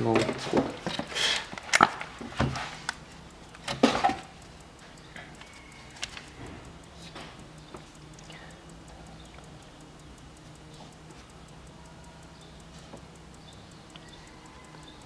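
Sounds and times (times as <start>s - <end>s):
low steady hum: 0.0s - 15.0s
metallic clinks and clicks: 0.0s - 15.0s.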